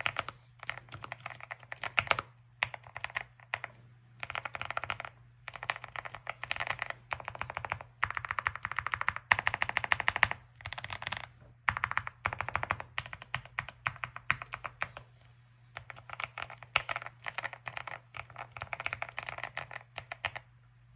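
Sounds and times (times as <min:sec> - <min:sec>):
typing on mechanical keyboard: 0:00.0 - 0:15.0, 0:15.8 - 0:20.5
faint low hum: 0:00.0 - 0:20.9.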